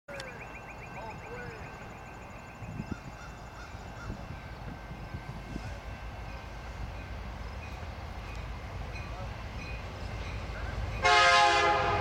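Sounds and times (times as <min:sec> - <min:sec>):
birds chirping: 0:00.1 - 0:11.0
distant freight train rumble: 0:00.1 - 0:12.0.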